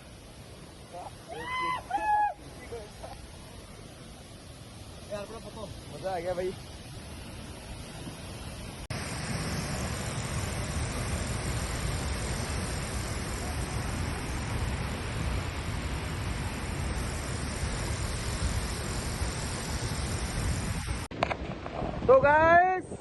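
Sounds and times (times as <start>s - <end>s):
waterfall roaring: 0.0s - 21.1s.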